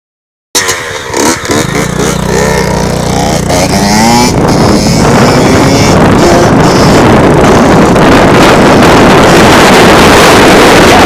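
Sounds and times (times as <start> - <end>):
dirt bike engine revving: 0.6 - 11.0.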